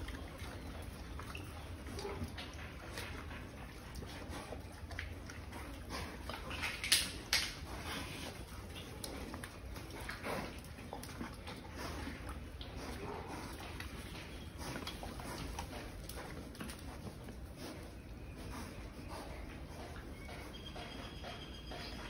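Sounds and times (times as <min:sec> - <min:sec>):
pigs chewing: 0:00.0 - 0:22.0
pigs snuffling and grunting: 0:00.0 - 0:22.0.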